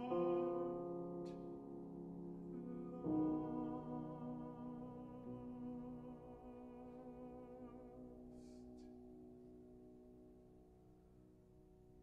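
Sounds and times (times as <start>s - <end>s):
grand piano accompaniment: 0.0s - 12.0s.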